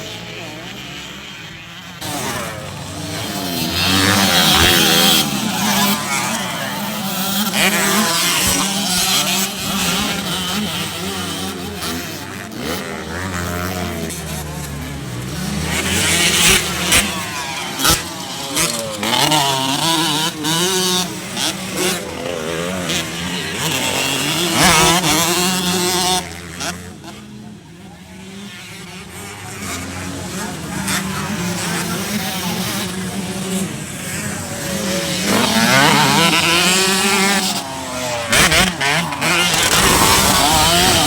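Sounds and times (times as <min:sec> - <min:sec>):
motorcycle engines revving: 0:00.0 - 0:41.0.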